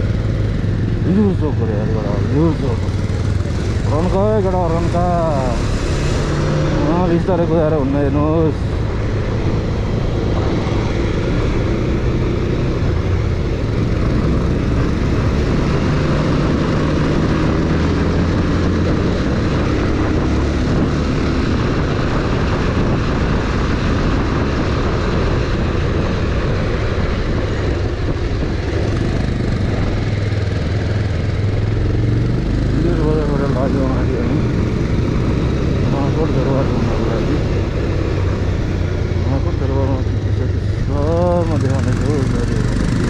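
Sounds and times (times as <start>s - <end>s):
motorcycle engine running: 0.0s - 43.0s
wind and road noise: 0.0s - 43.0s.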